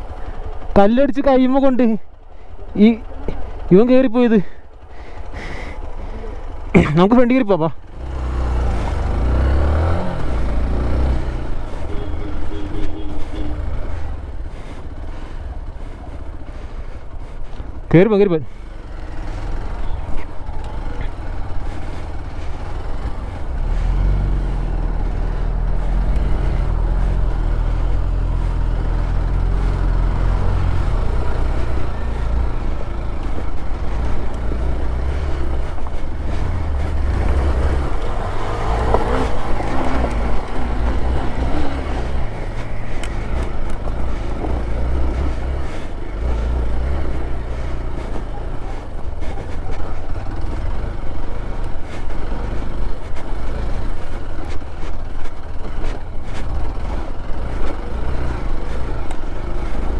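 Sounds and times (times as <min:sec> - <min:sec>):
vehicle engine revving under load: 0:07.7 - 0:59.9.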